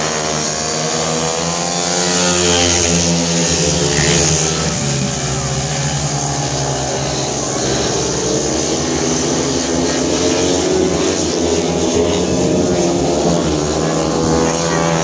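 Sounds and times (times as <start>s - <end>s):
motorcycles racing: 0.0s - 15.0s.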